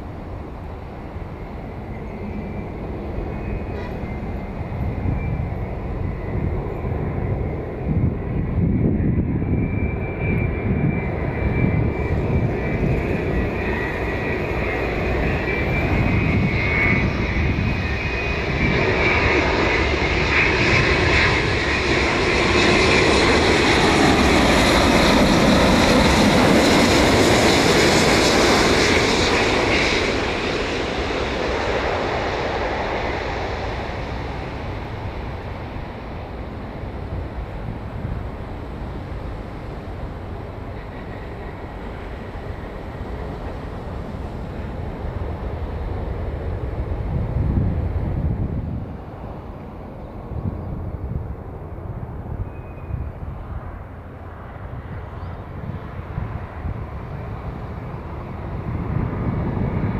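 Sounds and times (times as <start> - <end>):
jet engine whine and rumble: 0.0 - 59.9.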